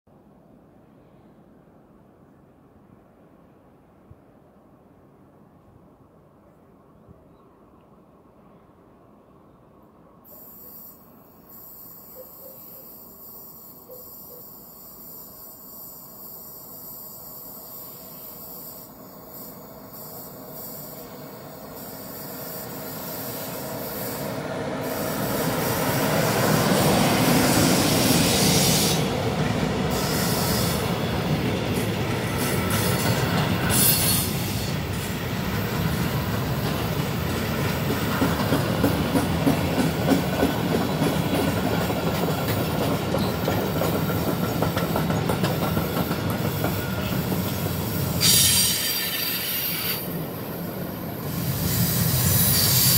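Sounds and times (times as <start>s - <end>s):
electric locomotive passing: 8.1s - 52.9s.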